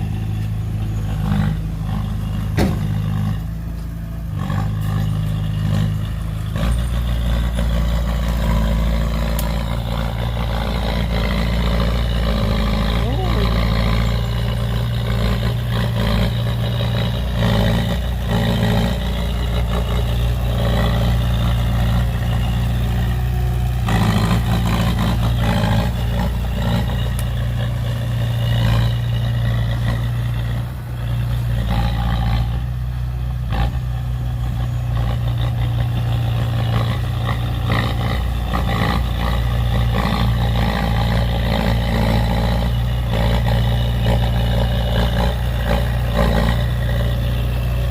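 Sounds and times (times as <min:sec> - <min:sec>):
diesel engines of heavy machinery: 0:00.0 - 0:47.9.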